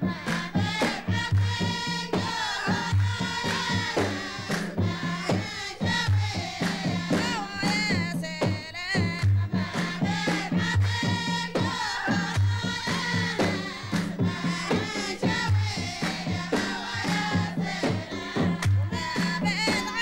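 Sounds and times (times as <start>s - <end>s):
drums: 0.0s - 20.0s
voices singing together: 0.0s - 20.0s
handclapping: 0.1s - 20.0s.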